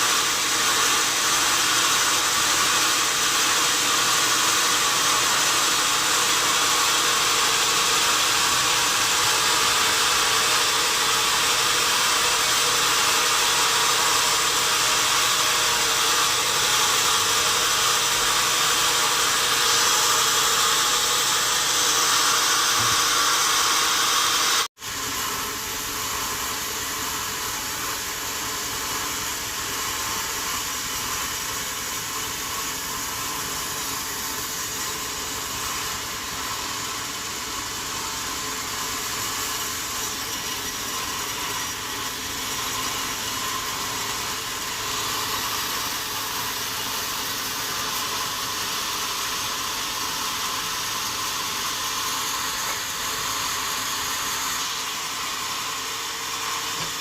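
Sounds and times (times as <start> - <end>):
sawmill machinery whirring: 0.0 - 57.0.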